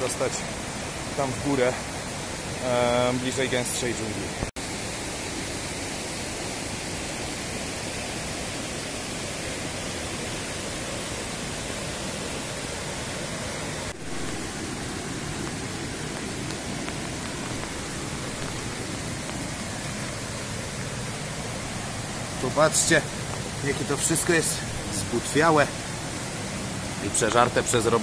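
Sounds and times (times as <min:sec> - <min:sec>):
falling rain: 0:00.0 - 0:28.0
stream rushing: 0:00.0 - 0:28.0.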